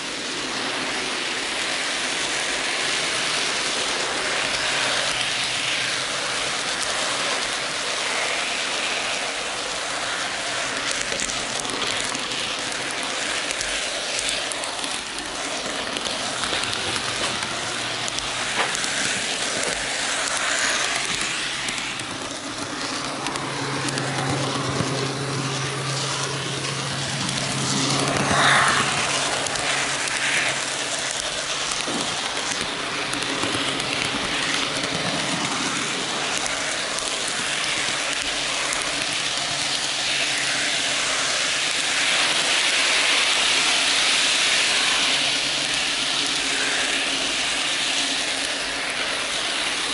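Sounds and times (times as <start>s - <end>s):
model train rattling on track: 0.0s - 49.9s.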